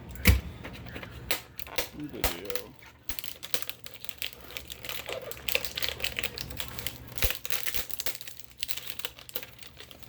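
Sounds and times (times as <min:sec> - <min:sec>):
packaging crinkling and rustling: 0:00.6 - 0:10.0.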